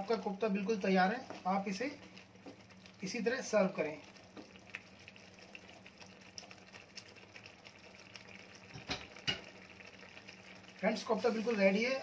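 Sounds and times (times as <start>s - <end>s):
gravy simmering in a pan: 0.0s - 12.0s.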